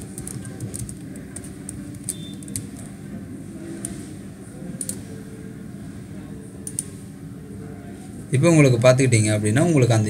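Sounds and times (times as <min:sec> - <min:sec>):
low steady background hum: 0:00.0 - 0:10.0.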